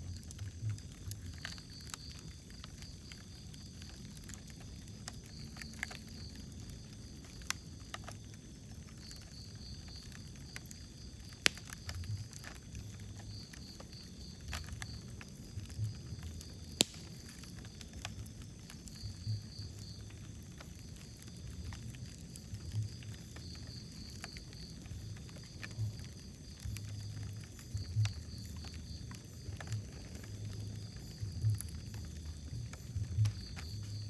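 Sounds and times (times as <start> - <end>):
low rumble of flames: 0.0 - 34.0
wood fire crackling: 0.0 - 34.0.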